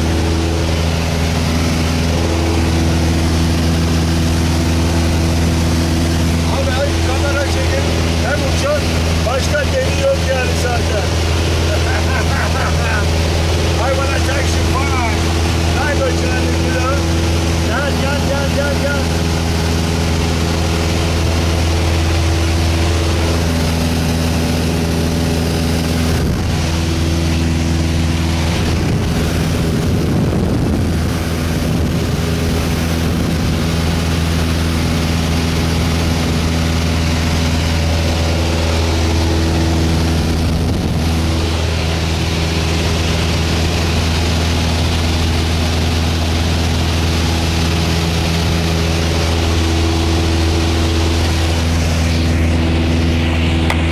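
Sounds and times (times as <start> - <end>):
propeller plane engine drone: 0.0 - 53.9
wind rush: 0.0 - 53.9.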